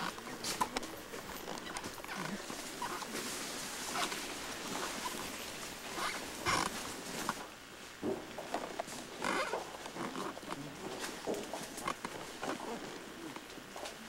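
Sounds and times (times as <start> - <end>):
leaves and twigs rustling: 0.0 - 14.0.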